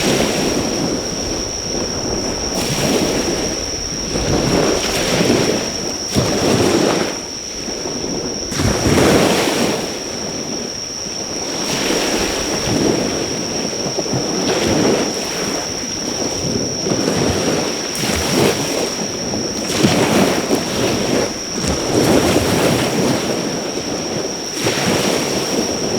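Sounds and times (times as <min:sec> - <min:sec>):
insects trilling: 0:00.0 - 0:25.9
sea waves washing onto shore: 0:00.0 - 0:25.9.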